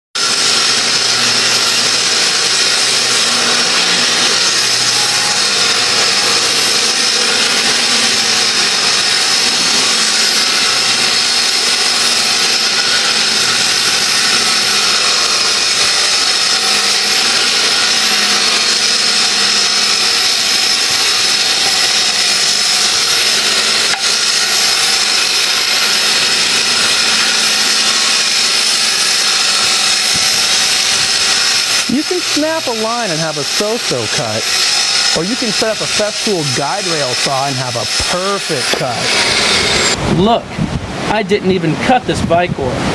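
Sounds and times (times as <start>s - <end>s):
saw cutting through wood boards: 0.2s - 40.5s.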